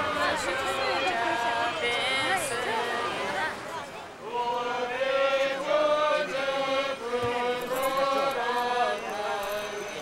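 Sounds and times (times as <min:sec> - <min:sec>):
voices chanting in unison: 0:00.0 - 0:10.0.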